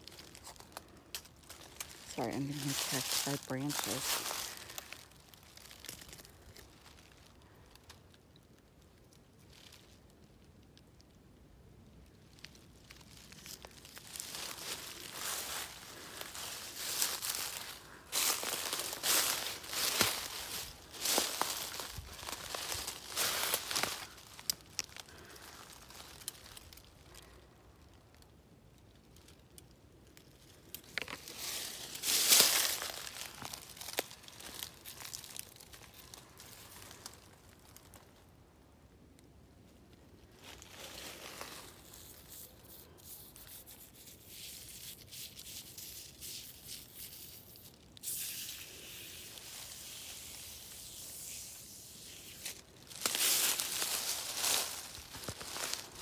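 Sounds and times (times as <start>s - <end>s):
dry leaves crunching underfoot: 0.0s - 8.3s, 12.2s - 27.4s, 30.1s - 38.4s, 40.2s - 56.0s.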